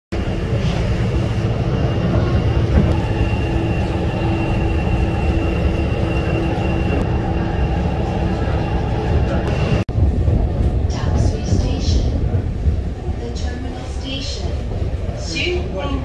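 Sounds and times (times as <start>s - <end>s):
metro train rumbling: 0.1s - 16.0s.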